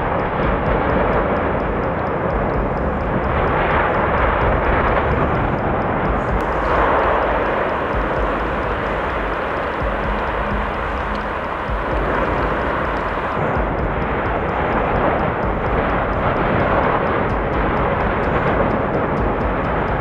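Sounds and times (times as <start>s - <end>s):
volcanic eruption roaring: 0.0s - 20.0s.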